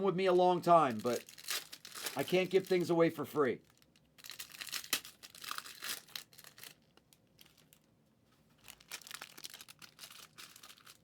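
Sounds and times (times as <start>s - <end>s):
plastic wrappers crinkling and tearing: 0.6s - 7.9s, 8.6s - 11.0s.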